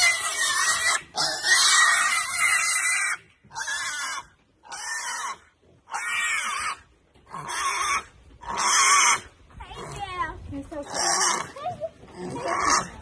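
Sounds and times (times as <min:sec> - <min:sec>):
young pigs squealing: 0:00.0 - 0:10.0, 0:10.8 - 0:13.0.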